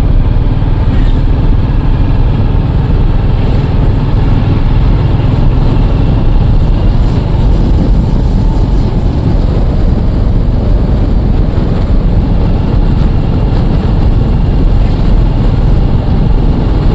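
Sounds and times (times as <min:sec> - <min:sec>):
motorcycle engine deep rumble: 0:00.0 - 0:16.9.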